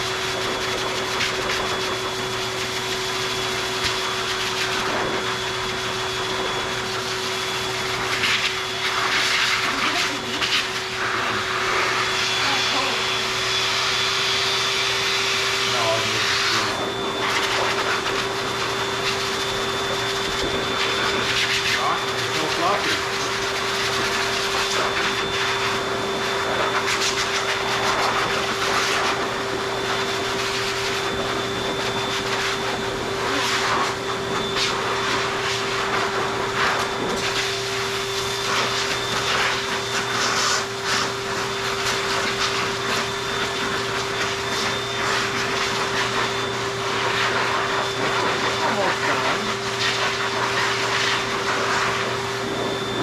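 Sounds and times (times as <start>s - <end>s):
grooming dryer blowing air: 0.0s - 53.0s.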